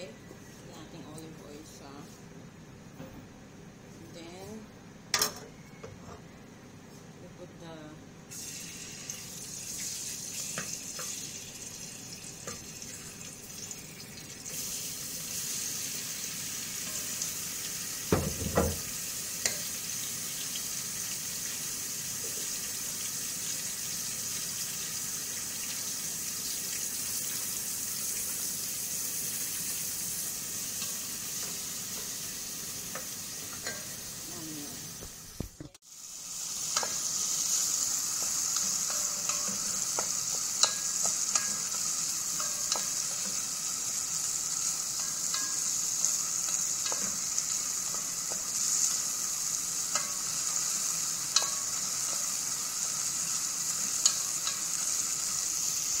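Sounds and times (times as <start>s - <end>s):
oil sizzling in a pot: 8.3s - 56.0s
vegetables frying in oil: 8.3s - 56.0s.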